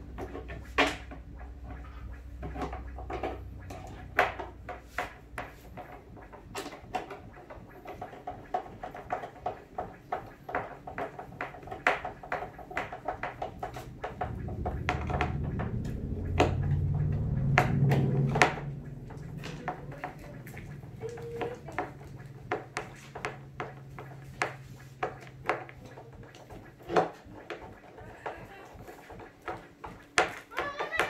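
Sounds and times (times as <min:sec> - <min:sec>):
low hum: 0:00.0 - 0:29.6.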